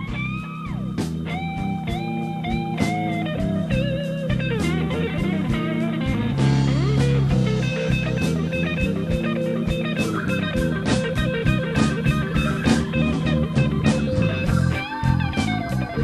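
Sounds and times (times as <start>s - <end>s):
guitar with bending notes: 0.0s - 16.0s
steady beat: 0.0s - 16.0s.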